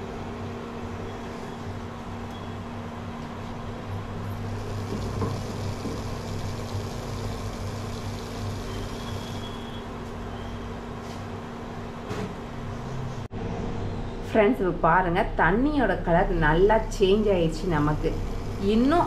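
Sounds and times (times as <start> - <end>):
stove burner rumbling hiss: 0.0 - 12.6, 15.6 - 19.0.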